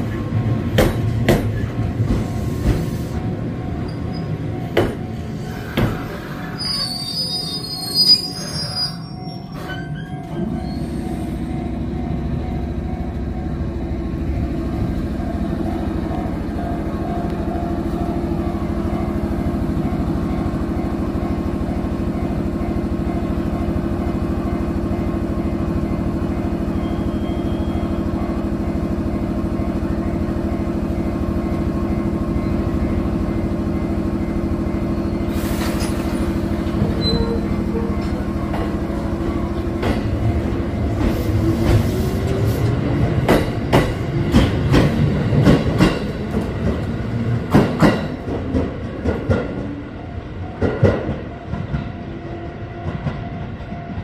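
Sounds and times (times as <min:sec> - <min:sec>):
electric train humming rumble: 0:00.0 - 0:54.0.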